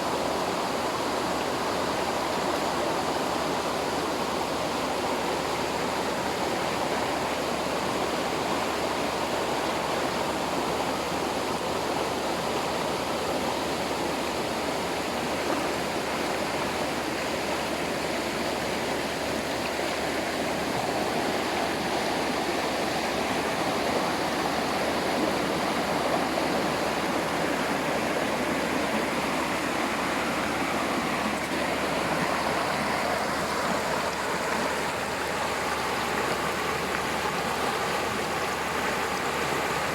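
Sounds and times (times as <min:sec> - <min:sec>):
water rushing over rocks: 0:00.1 - 0:39.9.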